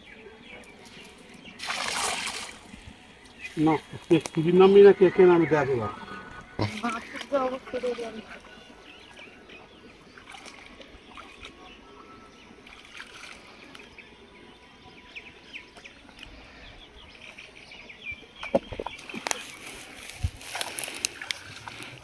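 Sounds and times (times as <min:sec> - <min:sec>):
birds chirping: 0:00.0 - 0:22.0
pond water splashing: 0:00.4 - 0:22.0.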